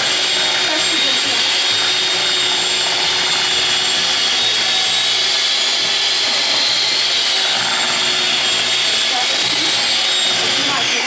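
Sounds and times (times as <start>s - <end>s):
electric hand mixer whining: 0.0s - 11.0s.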